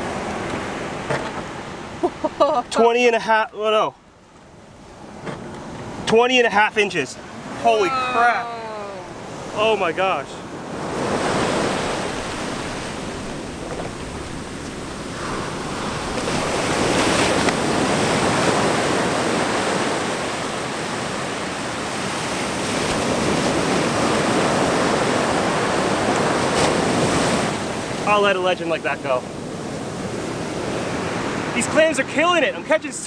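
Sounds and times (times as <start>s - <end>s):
ocean surf on beach: 0.0s - 33.0s.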